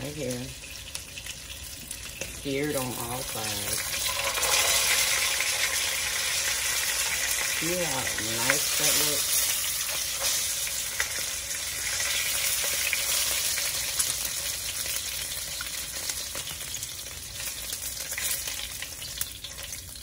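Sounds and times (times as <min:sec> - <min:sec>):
meat sizzling in a wok: 0:00.0 - 0:20.0.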